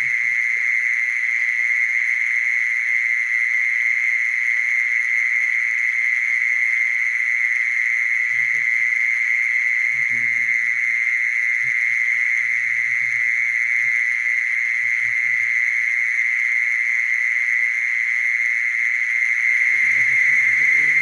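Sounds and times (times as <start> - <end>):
mole cricket trilling: 0.0 - 21.0.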